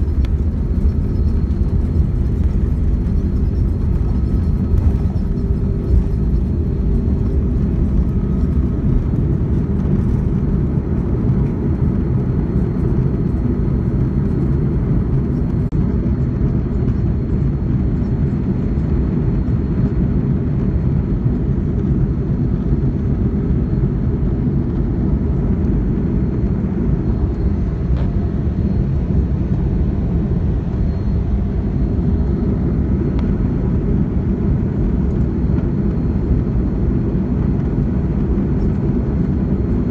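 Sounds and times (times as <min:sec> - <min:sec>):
jet engines low rumble in cabin: 0:00.0 - 0:39.9.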